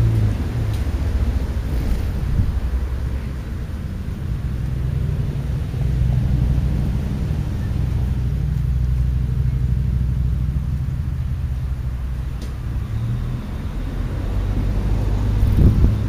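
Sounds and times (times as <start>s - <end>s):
cars passing: 0.0s - 16.0s
engine and tyre rumble: 0.0s - 16.0s.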